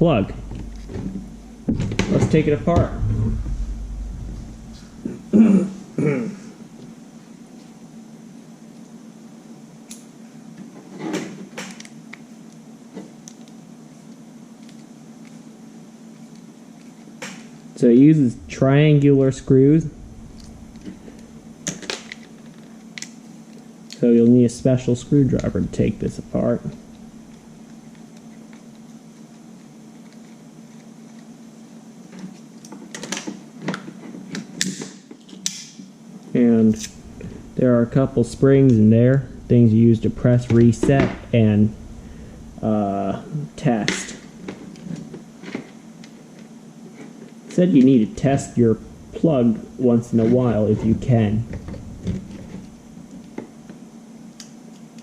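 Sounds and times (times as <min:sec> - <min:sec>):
faint hum: 0:00.0 - 0:34.5, 0:35.7 - 0:55.0.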